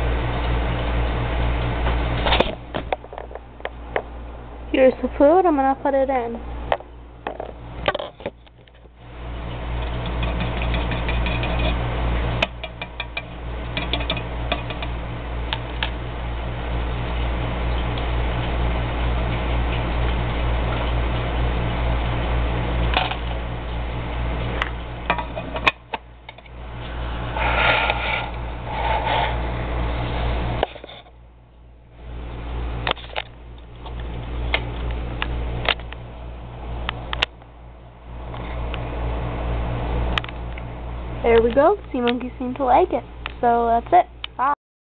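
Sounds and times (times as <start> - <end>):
air pump humming: 0.0 - 44.5.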